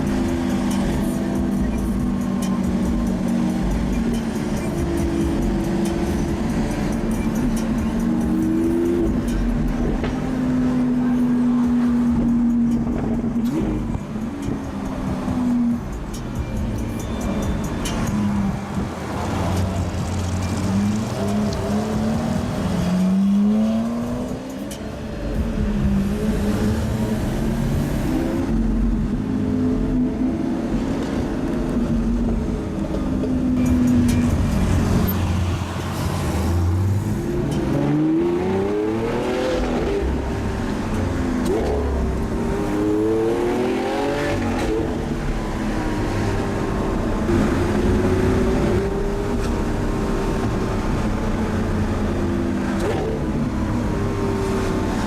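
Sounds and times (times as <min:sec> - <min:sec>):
car engine accelerating and revving: 0:00.0 - 0:55.0.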